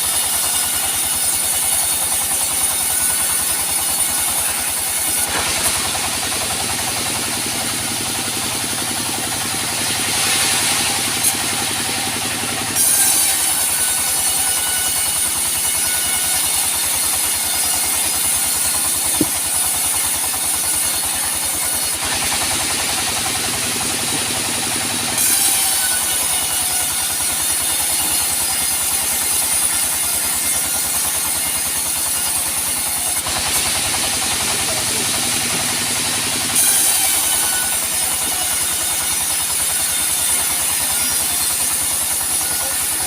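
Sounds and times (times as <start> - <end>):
sawmill engine beating: 0.0 - 43.0
high hissing saw whine: 0.1 - 43.0.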